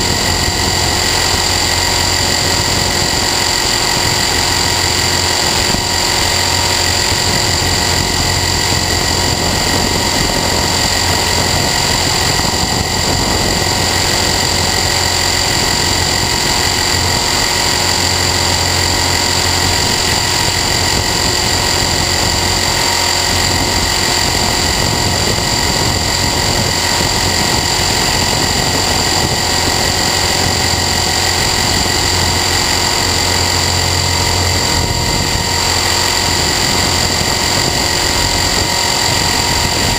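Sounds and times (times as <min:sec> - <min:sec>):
rc helicopter motor whine: 0:00.0 - 0:39.9
rotor hum: 0:00.0 - 0:39.9.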